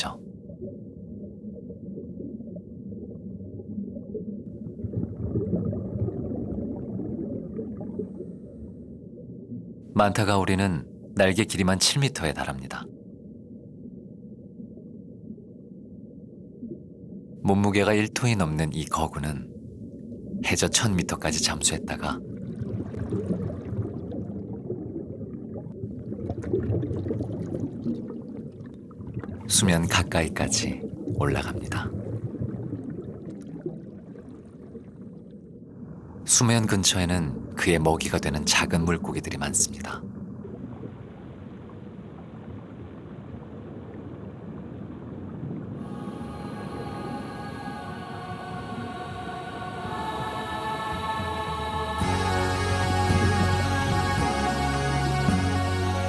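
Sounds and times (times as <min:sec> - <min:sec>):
underwater rumble: 0:00.1 - 0:17.4, 0:19.1 - 0:52.2.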